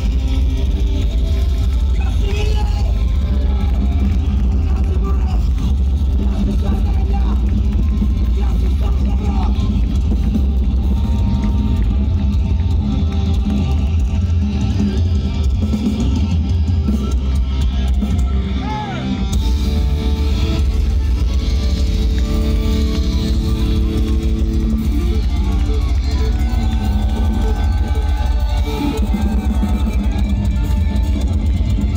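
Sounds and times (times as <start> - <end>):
distorted electric guitars: 0.0 - 31.9
drum kit: 0.0 - 31.9.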